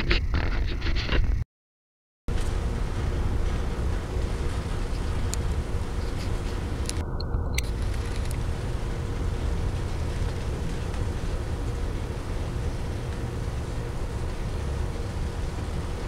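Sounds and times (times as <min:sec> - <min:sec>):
freight train wheels rumbling: 0:02.3 - 0:16.0.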